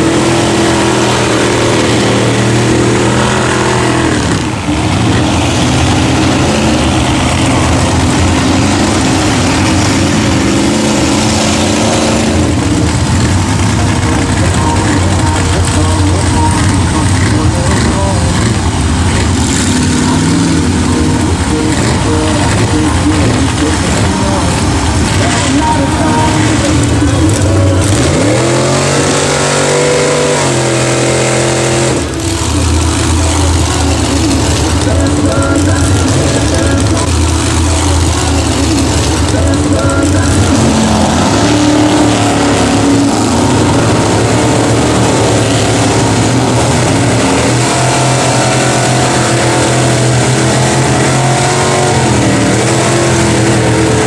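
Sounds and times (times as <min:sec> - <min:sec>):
loud truck engine revving: 0:00.0 - 0:54.0.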